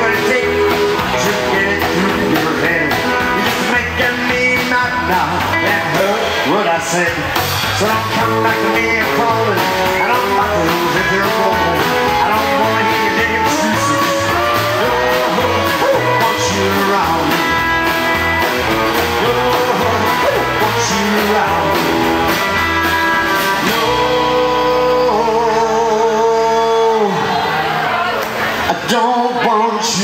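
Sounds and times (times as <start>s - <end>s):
strummed acoustic guitar: 0.0s - 25.8s
electric guitar lines: 0.0s - 27.3s
upright bass: 0.0s - 27.4s
drums: 0.0s - 30.0s.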